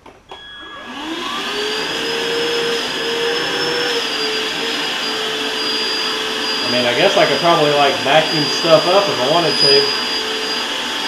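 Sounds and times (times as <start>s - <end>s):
electric motor whine: 0.6s - 11.0s.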